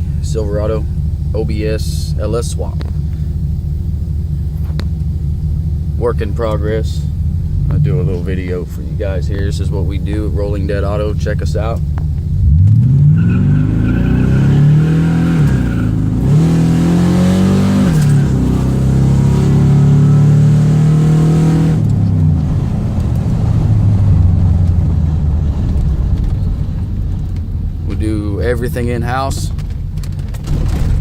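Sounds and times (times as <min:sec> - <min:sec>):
pickup engine accelerating: 0:00.0 - 0:31.0
wind and road noise: 0:00.0 - 0:31.0.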